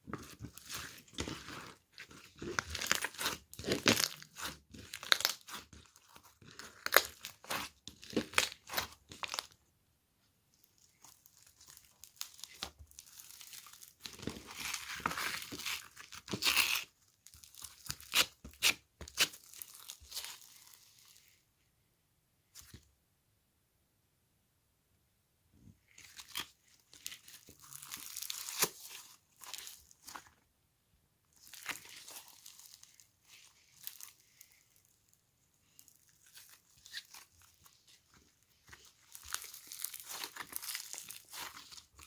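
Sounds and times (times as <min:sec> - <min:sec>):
material crinkling and crackling: 0:00.0 - 0:09.6, 0:10.5 - 0:21.3, 0:25.9 - 0:30.4, 0:31.3 - 0:42.0.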